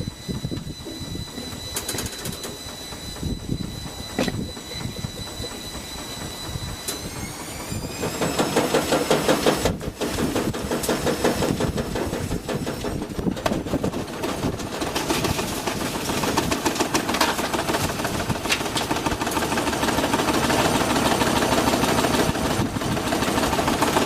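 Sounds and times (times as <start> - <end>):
washing machine knocking and rattling: 0.0 - 24.0
washing machine motor whine: 0.0 - 24.0.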